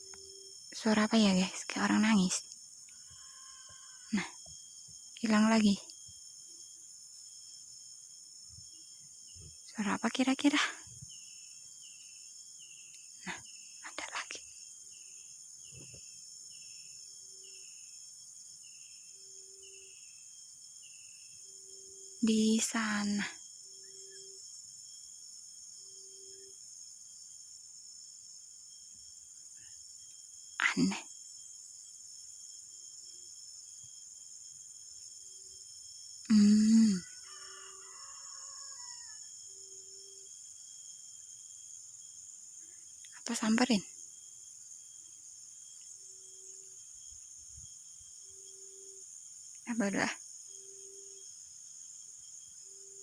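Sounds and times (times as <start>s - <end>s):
faint insect drone: 0.0s - 53.0s.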